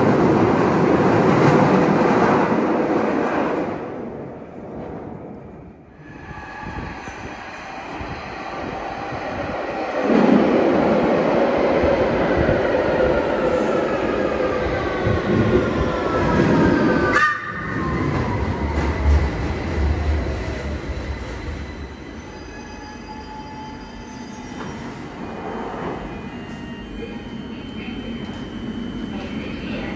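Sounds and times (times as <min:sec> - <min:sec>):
train wheel and air noise: 0:00.0 - 0:29.9.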